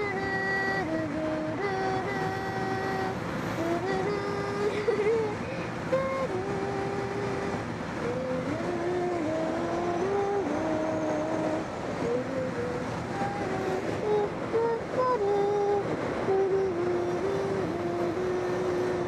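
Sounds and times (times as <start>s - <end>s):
air rushing around cockpit: 0.0s - 19.0s.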